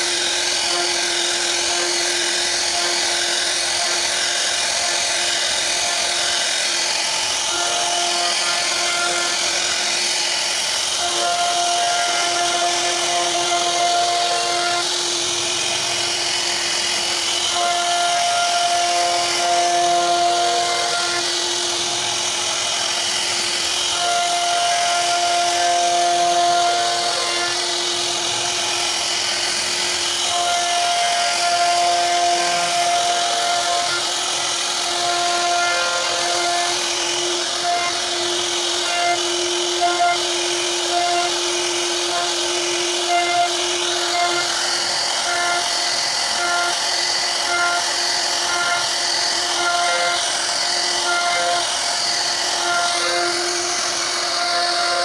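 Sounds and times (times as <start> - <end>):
router spindle whine cutting wood: 0.0 - 55.0.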